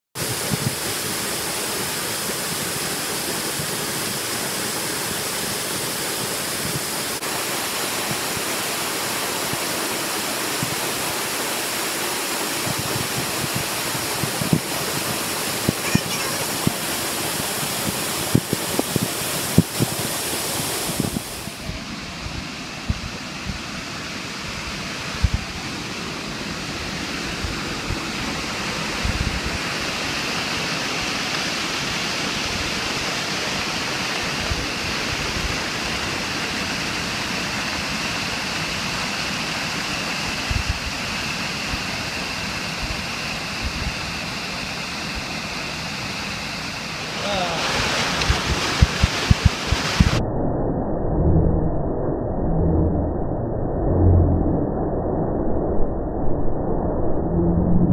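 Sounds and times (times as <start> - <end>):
waterfall rushing: 0.2 - 50.2.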